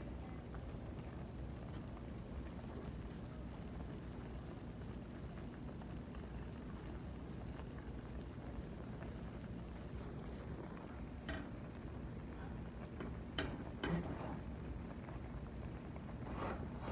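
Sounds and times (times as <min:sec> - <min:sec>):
food boiling in covered pan: 0:00.0 - 0:16.9.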